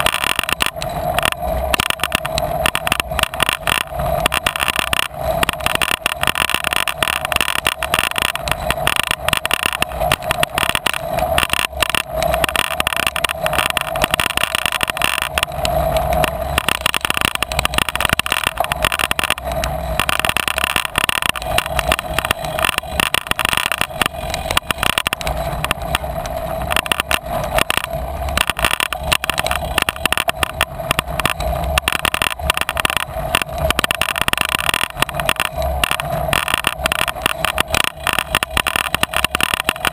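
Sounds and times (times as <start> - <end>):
bicycle rattling over rough track: 0.0 - 39.9
bicycle tyre noise: 0.0 - 39.9
steady hum: 0.0 - 39.9.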